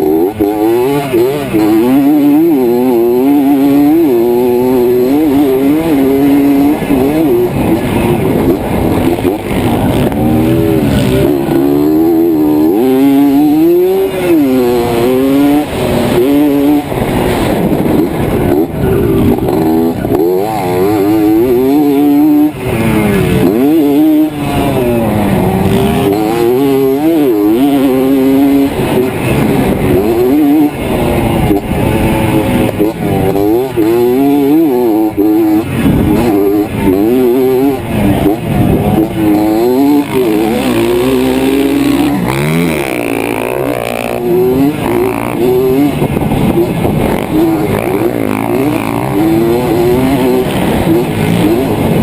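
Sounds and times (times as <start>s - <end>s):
two-stroke dirt bike engine revving: 0.0s - 52.0s.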